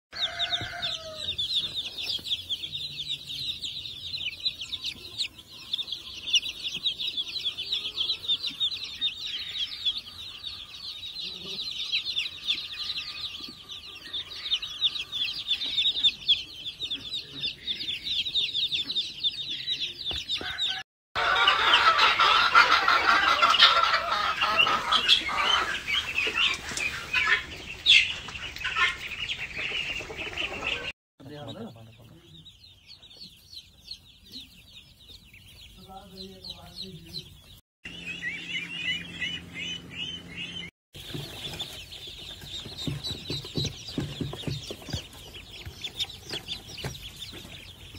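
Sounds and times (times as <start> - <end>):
chicks cheeping: 0.1 - 47.9.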